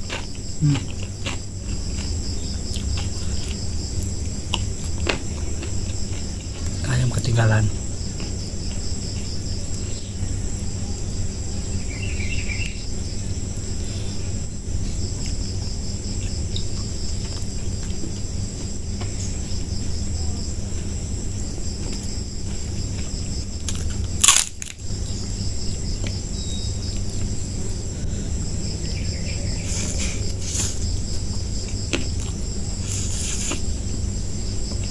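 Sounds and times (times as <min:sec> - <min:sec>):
crickets chirping: 0:00.0 - 0:34.9
low steady hum: 0:00.0 - 0:34.9.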